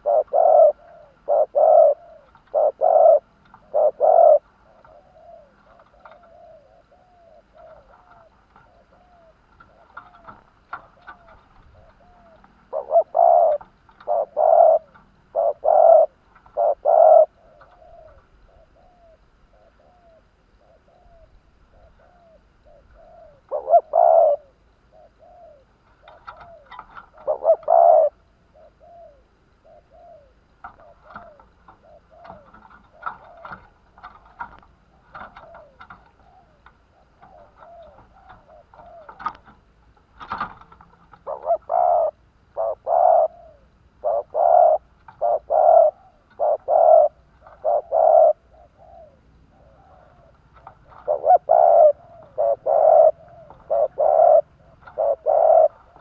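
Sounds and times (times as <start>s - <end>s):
dove cooing loudly: 0.0s - 39.6s, 40.2s - 56.0s
soft dove coos in background: 0.0s - 56.0s.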